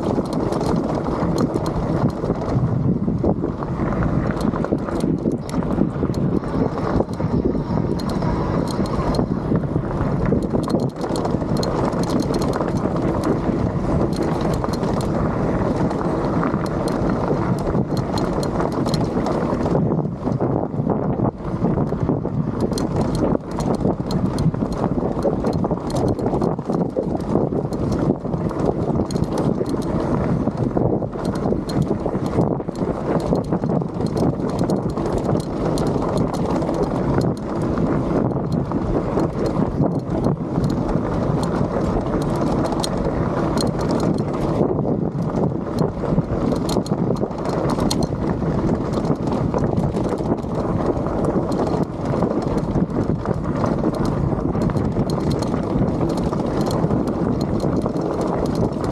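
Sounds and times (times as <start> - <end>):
small knocks and clicks: 0.0 - 2.6, 4.2 - 9.3, 10.2 - 20.4, 22.6 - 58.9
tyres crunching over loose rock: 0.0 - 20.5, 21.7 - 58.9
bike frame rattling: 0.0 - 58.9.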